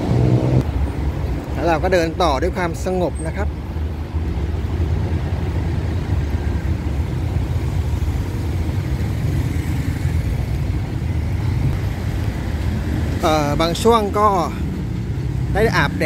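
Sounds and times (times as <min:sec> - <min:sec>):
cars and motorcycles passing: 0:00.0 - 0:16.0
low traffic rumble: 0:00.0 - 0:16.0.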